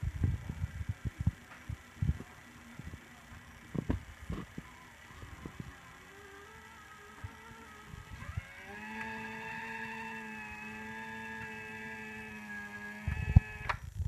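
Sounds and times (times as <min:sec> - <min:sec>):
motor whining: 0:00.4 - 0:14.0.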